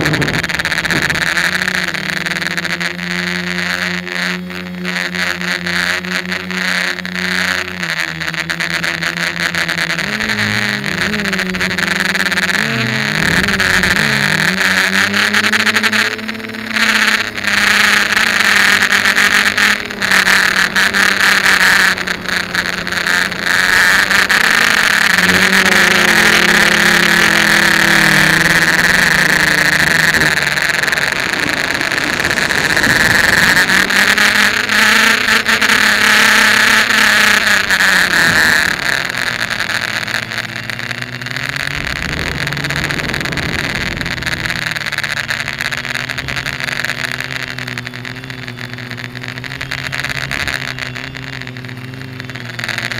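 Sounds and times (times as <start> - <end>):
drone motors buzzing whine: 0.0 - 52.9.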